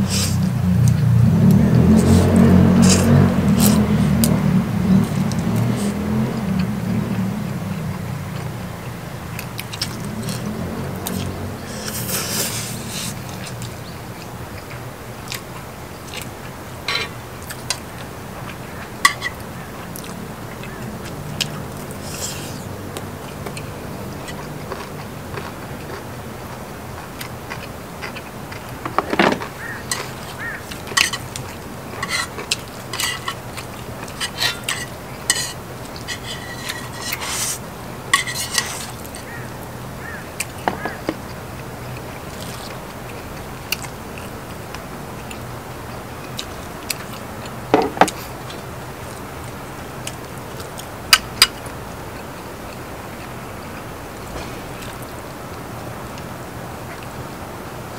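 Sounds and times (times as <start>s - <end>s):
chewing and slurping: 0.0s - 50.9s.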